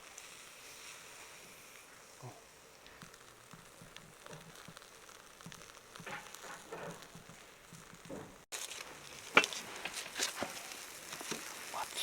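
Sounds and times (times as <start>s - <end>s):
charcoal fire crackling: 0.0s - 12.0s.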